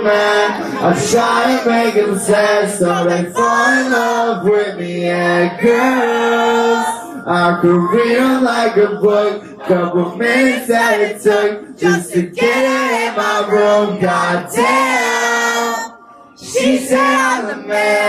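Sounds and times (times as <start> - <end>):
voices singing live: 0.0 - 18.0.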